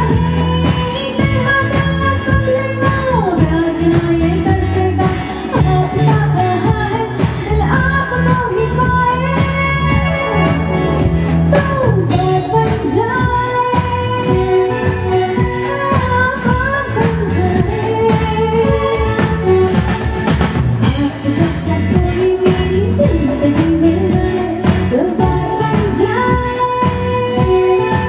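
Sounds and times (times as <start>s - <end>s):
band with violins and beat: 0.0s - 28.0s
woman singing: 0.0s - 28.0s.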